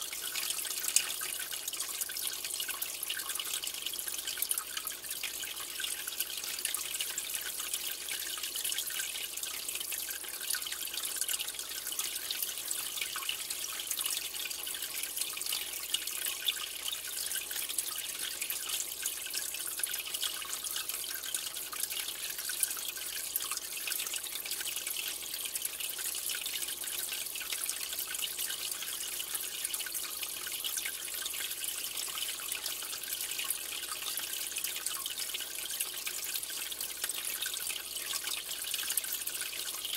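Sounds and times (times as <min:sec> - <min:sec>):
aquarium water splashing: 0:00.0 - 0:39.9.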